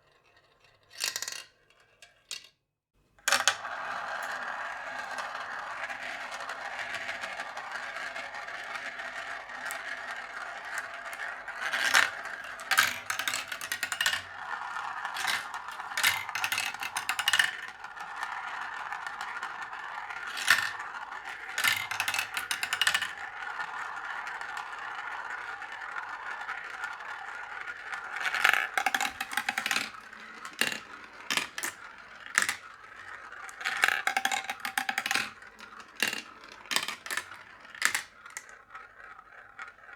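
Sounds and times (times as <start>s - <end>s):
marbles rolling on wooden track: 0.0s - 2.5s, 3.3s - 39.9s
marbles clacking: 3.3s - 39.9s.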